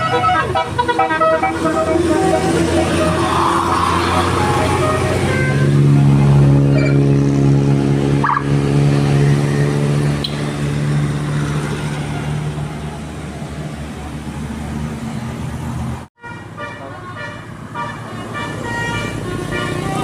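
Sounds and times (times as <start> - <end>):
bus engine droning: 0.0 - 20.0.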